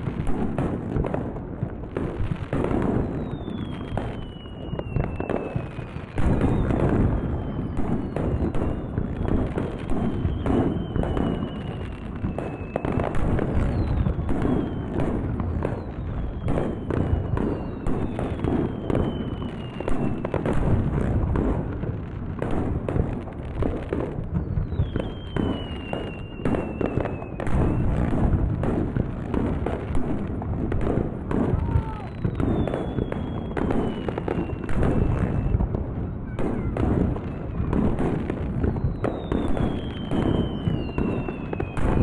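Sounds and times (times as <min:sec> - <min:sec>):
fireworks bangs and crackles: 0:00.0 - 0:42.0
fireworks whistling down: 0:00.0 - 0:42.0.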